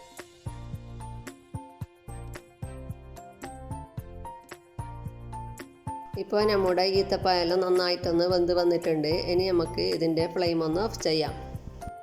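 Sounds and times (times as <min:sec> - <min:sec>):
background music with beat: 0:00.0 - 0:06.6, 0:07.2 - 0:12.0.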